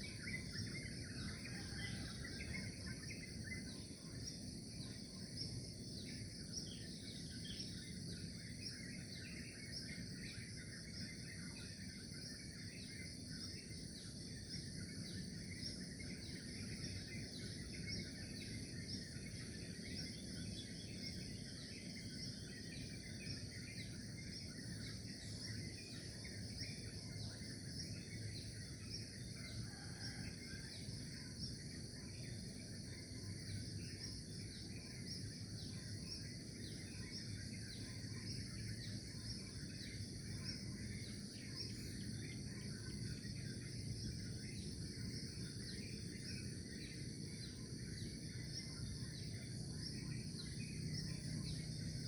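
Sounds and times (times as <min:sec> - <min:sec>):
insects trilling: 0:00.0 - 0:52.0.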